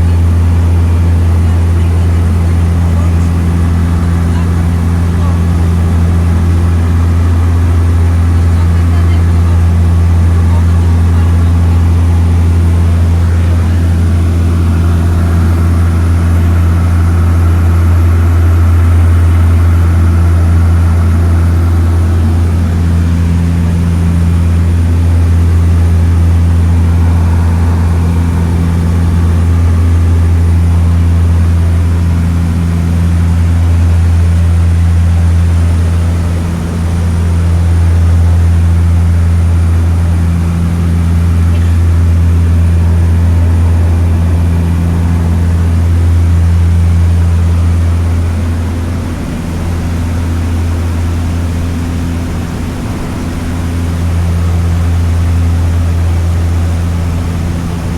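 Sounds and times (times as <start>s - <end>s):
propeller engines droning: 0.0s - 57.9s.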